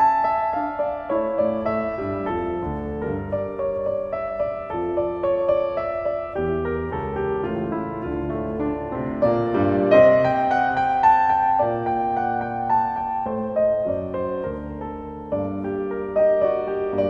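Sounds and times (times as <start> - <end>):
gentle solo piano: 0.0 - 17.0.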